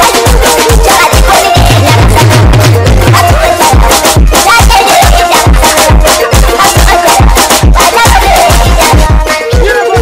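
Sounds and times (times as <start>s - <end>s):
kick drum beat: 0.0s - 10.0s
upbeat dance music: 0.0s - 10.0s.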